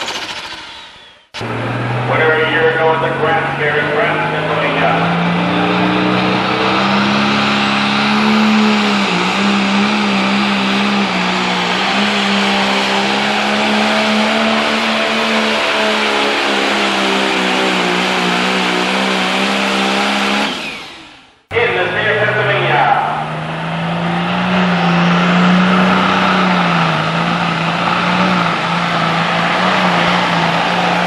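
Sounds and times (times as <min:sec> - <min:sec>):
tractor diesel engine high revs: 0:00.0 - 0:31.0.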